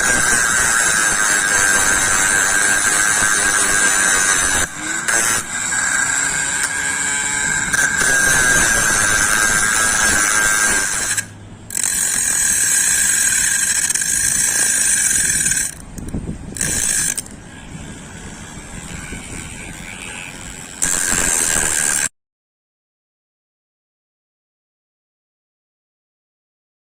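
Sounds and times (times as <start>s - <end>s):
electric motor whining and rattling: 0.0s - 22.1s.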